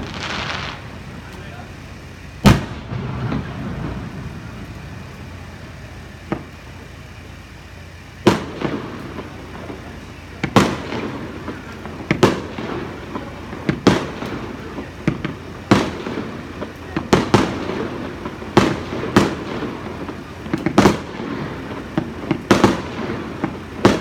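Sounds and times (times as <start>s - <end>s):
fireworks bursting with echoes: 0.0s - 24.0s.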